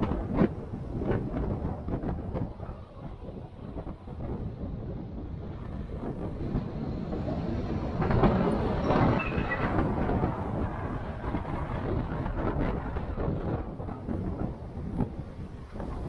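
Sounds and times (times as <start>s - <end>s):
off-road vehicle rumbling: 0.0s - 16.0s.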